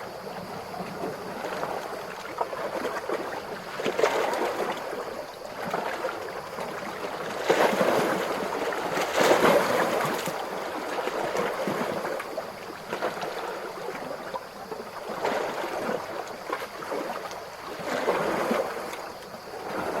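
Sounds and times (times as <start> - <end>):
ocean waves lapping: 1.0 - 20.0.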